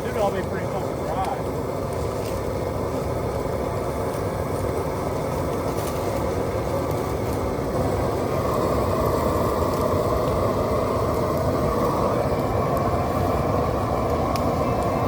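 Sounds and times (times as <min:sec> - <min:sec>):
faint fire crackles: 0:00.0 - 0:15.0
flames roaring: 0:00.0 - 0:15.0.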